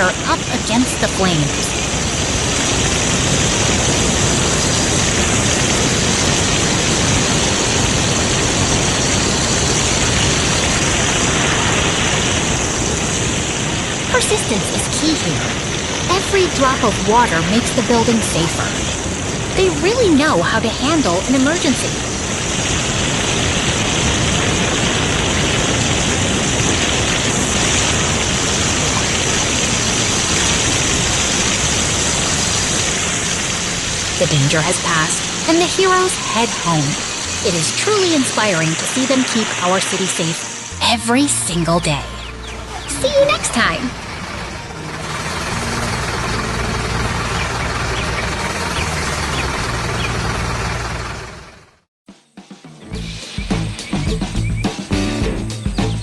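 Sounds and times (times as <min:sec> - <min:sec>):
water jetting from fire hoses: 0:00.0 - 0:40.8, 0:42.6 - 0:51.7.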